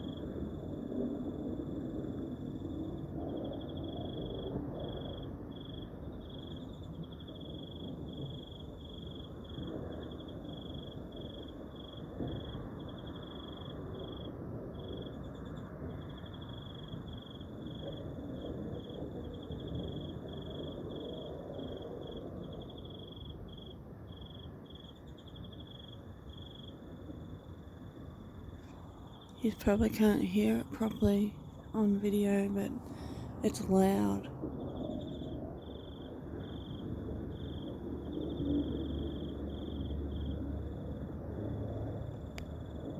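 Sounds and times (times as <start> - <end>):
low rough roar from the sky: 0.0 - 29.3, 34.3 - 42.9
crickets chirping: 0.0 - 42.9.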